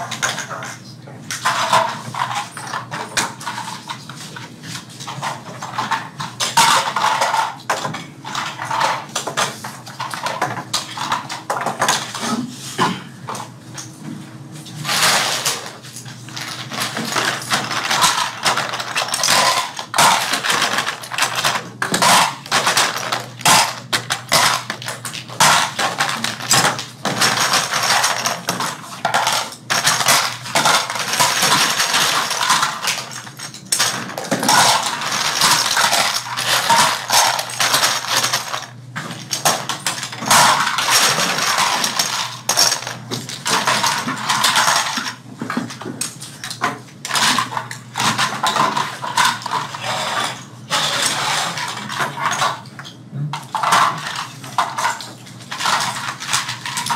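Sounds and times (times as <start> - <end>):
small plastic parts clattering: 0.0 - 13.9, 14.8 - 56.9.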